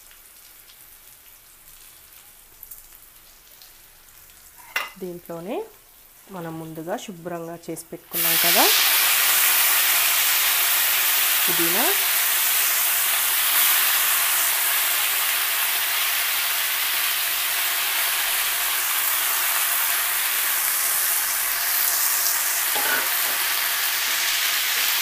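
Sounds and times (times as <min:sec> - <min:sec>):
leaves sizzling in hot oil: 0:00.0 - 0:25.0.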